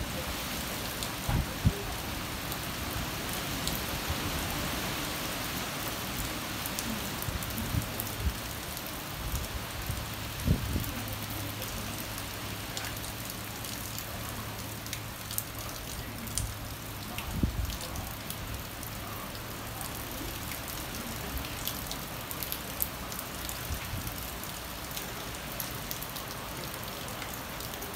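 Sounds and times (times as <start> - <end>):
heavy rain downpour: 0.0 - 27.9.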